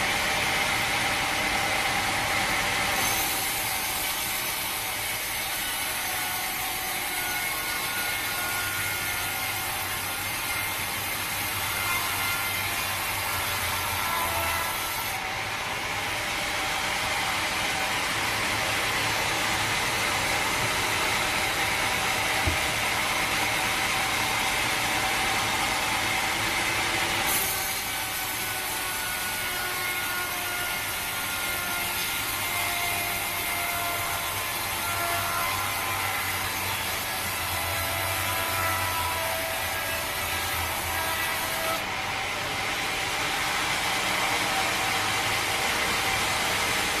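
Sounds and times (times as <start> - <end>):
sawmill saw cutting log: 0.0 - 47.0.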